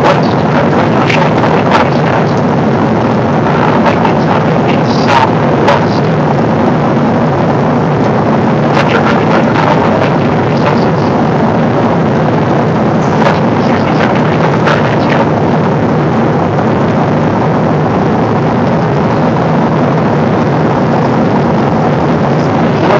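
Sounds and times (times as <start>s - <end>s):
airliner cabin noise: 0.0s - 22.9s.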